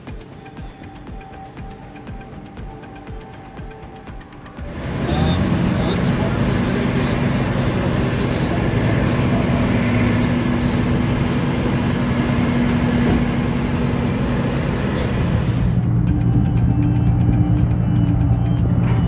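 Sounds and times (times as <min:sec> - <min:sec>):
large engine droning: 0:00.0 - 0:19.0.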